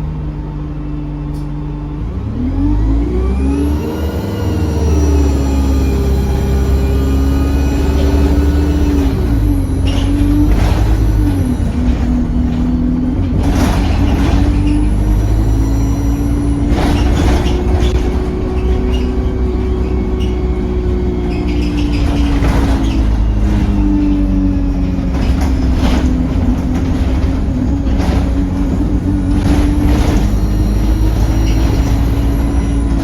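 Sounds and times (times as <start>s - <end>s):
bus diesel engine hum: 0.0s - 33.0s.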